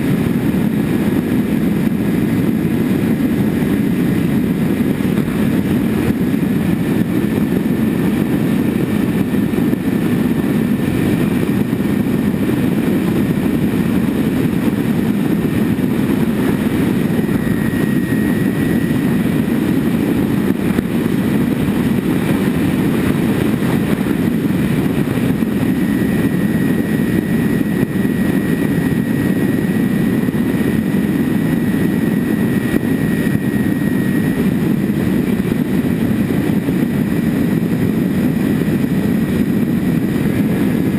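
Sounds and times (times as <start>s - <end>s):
high motor whine: 0.0s - 40.9s
propeller and wind rush: 0.0s - 40.9s.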